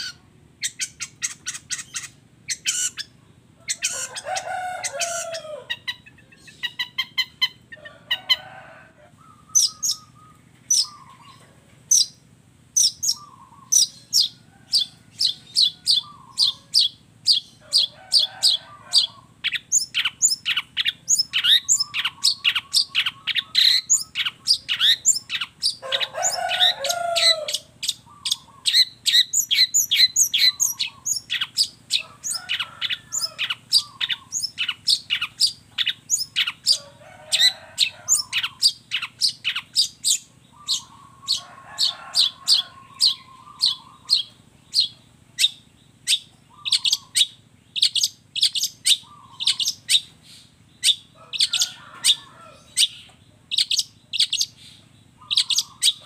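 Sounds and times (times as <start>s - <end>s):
bird harsh grating chatter: 0.0s - 7.7s, 12.8s - 56.0s.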